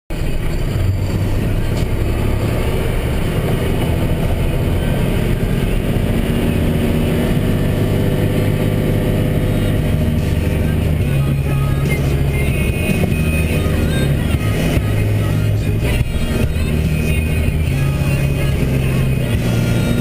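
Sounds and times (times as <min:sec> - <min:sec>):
diesel truck engine drone: 0:00.1 - 0:20.0.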